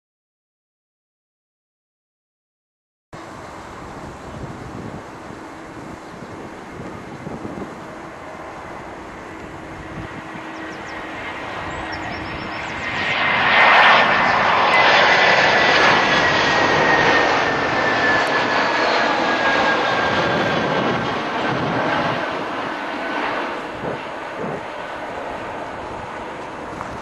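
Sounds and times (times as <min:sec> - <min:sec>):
high jet engine whine: 0:03.2 - 0:27.0
jet passing overhead: 0:03.2 - 0:27.0.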